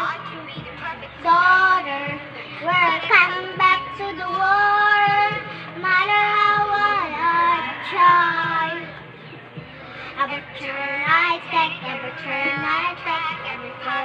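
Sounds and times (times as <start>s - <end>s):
girl singing into electric fan: 0.0s - 8.9s, 10.0s - 14.0s.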